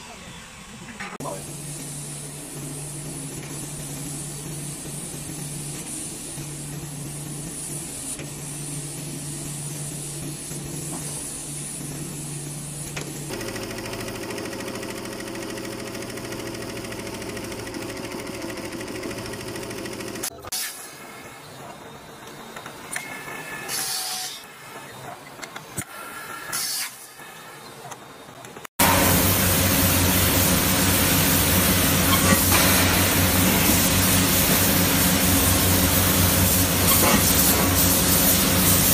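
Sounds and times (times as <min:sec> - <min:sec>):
laser cutter hum and hiss: 0:00.0 - 0:38.9.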